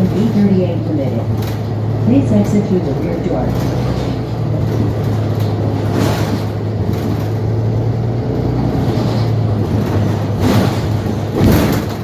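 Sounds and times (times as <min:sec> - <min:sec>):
bus cabin low hum: 0:00.0 - 0:12.0
road and drivetrain noise: 0:00.0 - 0:12.0.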